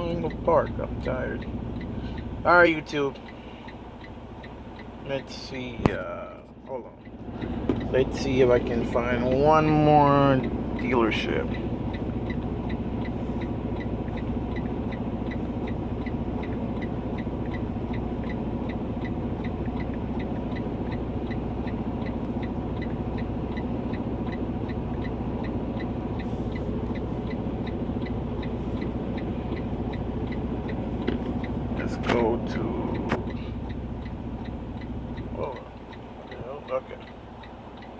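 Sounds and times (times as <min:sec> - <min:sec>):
diesel engine idling: 0:00.0 - 0:37.9
rapid high ticking: 0:00.0 - 0:37.9.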